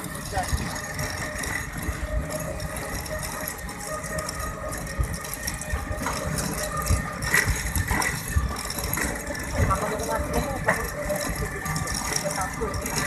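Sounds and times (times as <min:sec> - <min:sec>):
small vehicle engine running: 0:00.0 - 0:13.0.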